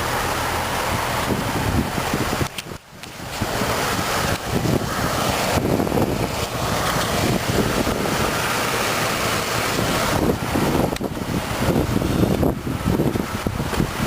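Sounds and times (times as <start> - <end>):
wind buffeting microphone: 0.6 - 14.0.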